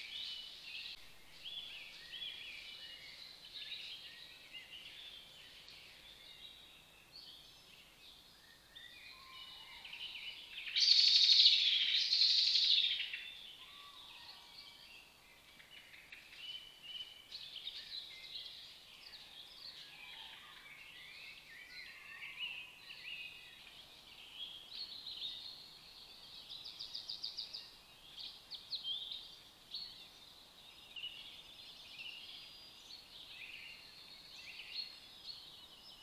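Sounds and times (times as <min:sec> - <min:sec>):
loud bird song: 0:00.0 - 0:36.0
songbirds chorus: 0:00.0 - 0:36.0.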